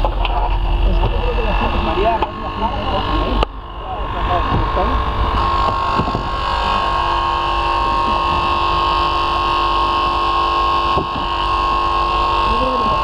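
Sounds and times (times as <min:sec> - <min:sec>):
hydraulic power unit engine running: 0:00.0 - 0:13.0.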